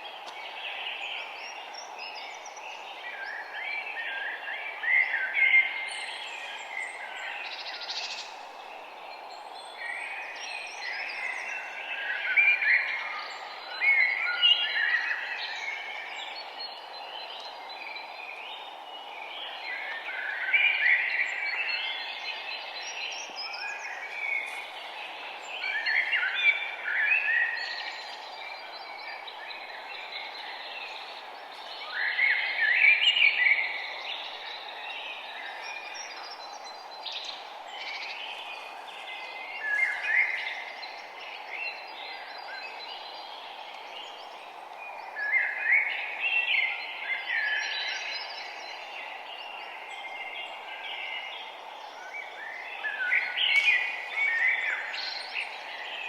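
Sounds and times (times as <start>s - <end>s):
songbirds singing: 0.0s - 56.0s
background hiss: 4.8s - 56.0s.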